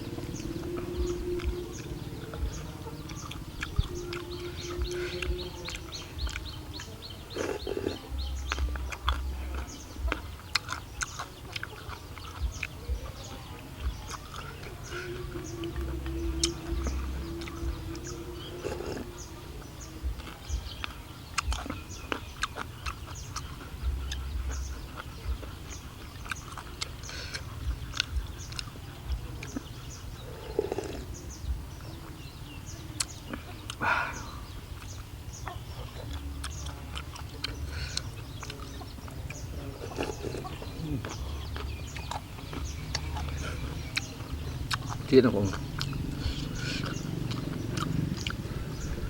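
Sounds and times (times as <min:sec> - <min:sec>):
chewing noodles: 0:00.0 - 0:49.0.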